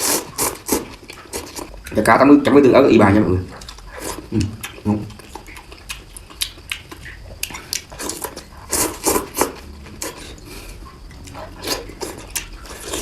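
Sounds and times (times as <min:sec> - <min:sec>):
chewing and slurping noodle soup: 0:00.0 - 0:02.0, 0:03.6 - 0:13.0.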